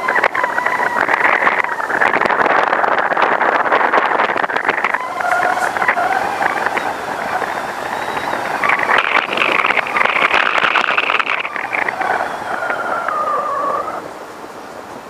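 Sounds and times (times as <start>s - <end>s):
pitched whine: 0.0s - 14.2s
road and wind noise: 0.0s - 15.0s.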